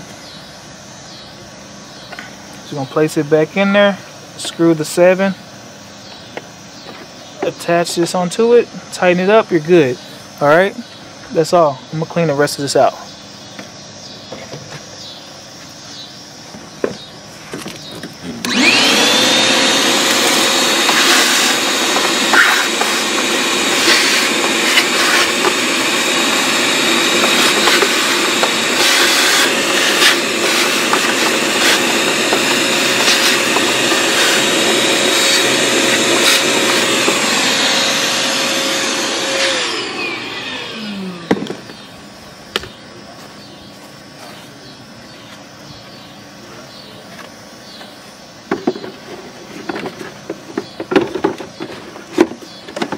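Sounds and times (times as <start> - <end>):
vacuum cleaner motor whining: 6.0 - 44.4, 48.4 - 52.9.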